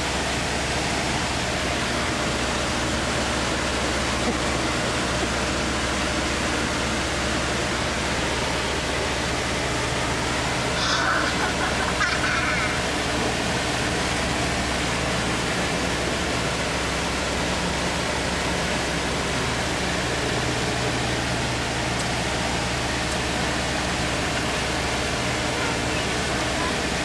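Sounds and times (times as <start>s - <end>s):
boat engine drone: 0.0s - 27.0s.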